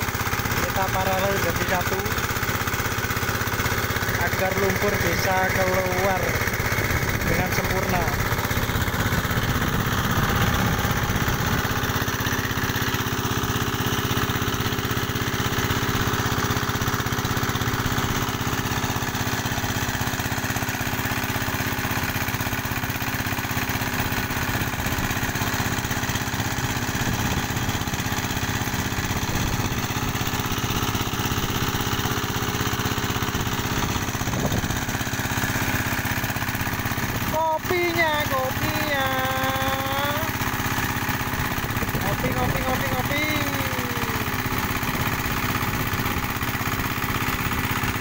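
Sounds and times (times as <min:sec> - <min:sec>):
electric water pump running: 0:00.0 - 0:48.0
small diesel engine running: 0:00.0 - 0:48.0.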